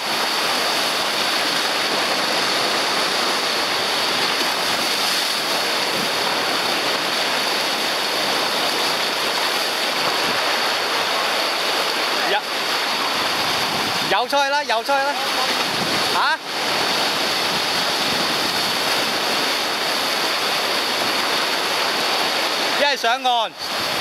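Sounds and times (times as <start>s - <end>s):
rough sea surf rushing: 0.0s - 24.0s.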